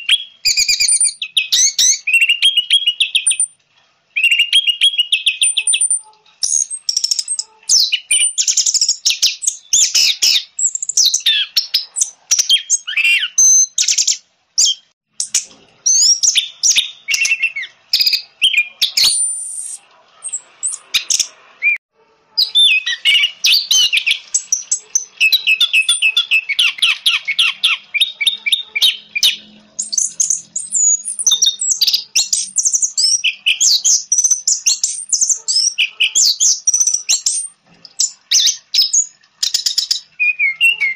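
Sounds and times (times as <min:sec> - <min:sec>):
thrush singing whistled trills: 0:00.0 - 0:03.6, 0:04.2 - 0:21.8, 0:22.4 - 0:40.9.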